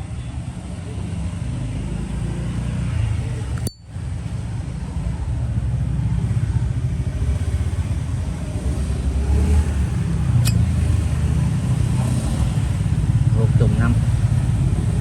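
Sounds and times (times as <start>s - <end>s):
motorbikes: 0.0s - 15.0s
street traffic rumble: 0.0s - 15.0s.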